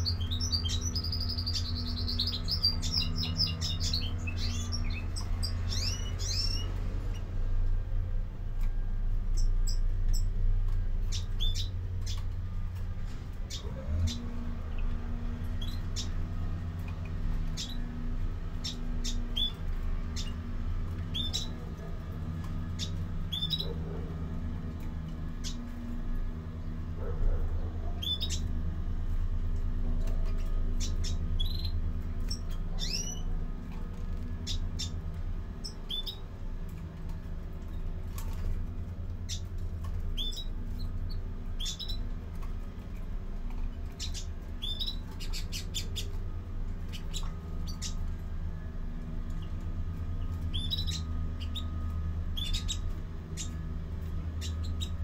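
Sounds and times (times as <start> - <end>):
finches chirping: 0.0 - 7.4, 9.3 - 10.4, 11.0 - 12.6, 13.4 - 26.9, 27.5 - 28.6, 30.0 - 36.4, 37.6 - 48.4, 49.0 - 55.0
steady low hum: 0.0 - 55.0.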